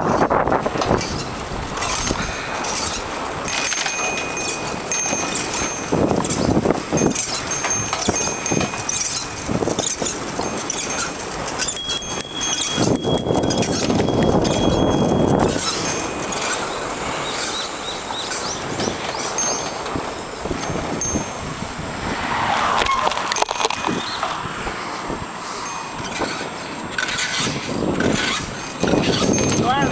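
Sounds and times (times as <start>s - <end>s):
rushing noise: 0.0s - 29.0s
bicycle frame rattling: 0.0s - 29.9s
thin high squeals: 1.0s - 21.5s, 22.4s - 29.9s.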